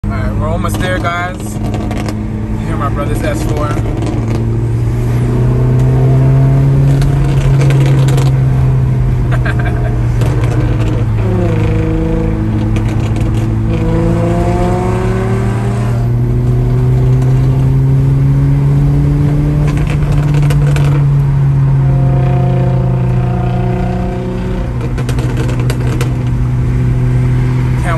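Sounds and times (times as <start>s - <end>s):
exhaust pops and crackles: 0.2s - 4.6s, 5.7s - 14.7s, 16.0s - 17.8s, 18.9s - 27.9s
car engine accelerating: 0.2s - 27.9s.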